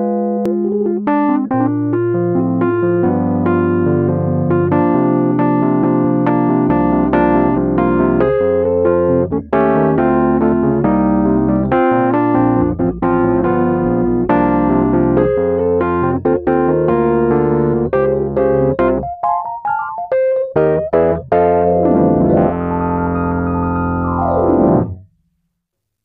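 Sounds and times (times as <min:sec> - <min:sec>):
electric piano chords: 0:00.0 - 0:25.0.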